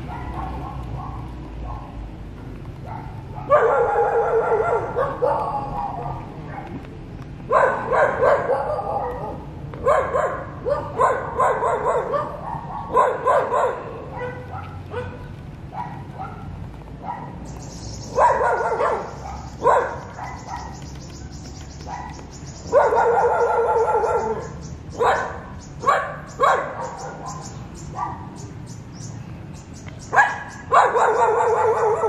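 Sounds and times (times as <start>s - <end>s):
dog barking: 0.0s - 2.0s, 2.8s - 6.8s, 7.5s - 17.4s, 18.1s - 20.9s, 21.8s - 28.4s, 30.1s - 32.0s.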